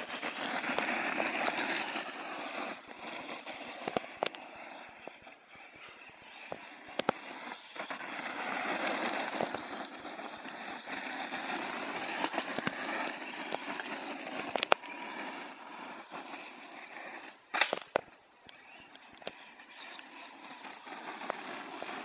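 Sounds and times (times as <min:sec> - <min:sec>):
tyres crunching on gravel: 0:00.0 - 0:22.0.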